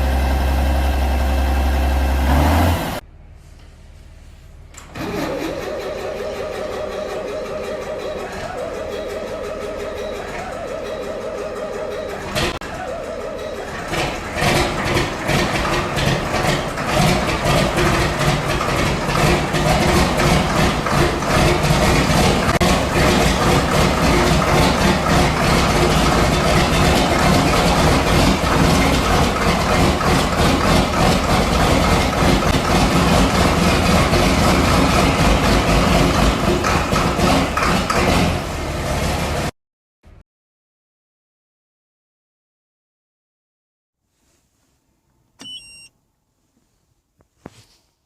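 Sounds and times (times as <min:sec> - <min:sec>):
diesel engine running: 0:00.0 - 0:39.5.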